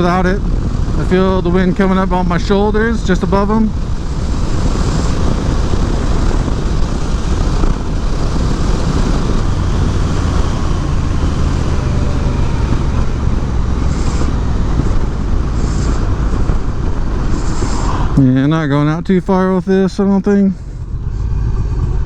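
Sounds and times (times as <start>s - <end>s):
motorcycle engine drone: 0.0s - 22.0s
wind rushing over microphone: 0.0s - 22.0s.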